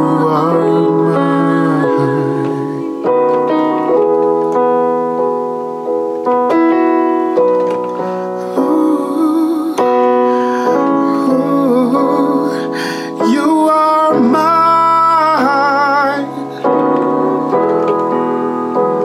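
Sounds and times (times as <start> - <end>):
digital piano chords: 0.0 - 19.0.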